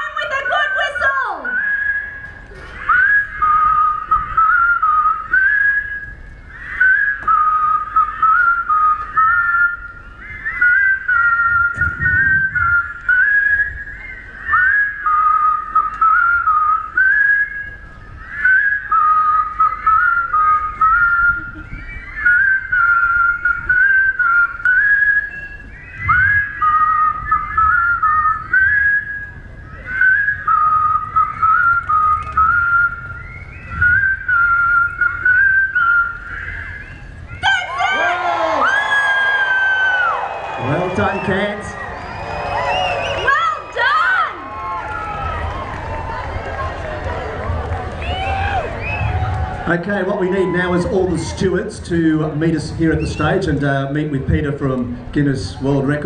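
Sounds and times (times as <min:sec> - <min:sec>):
crowd whistling a tune: 0:00.0 - 0:55.1.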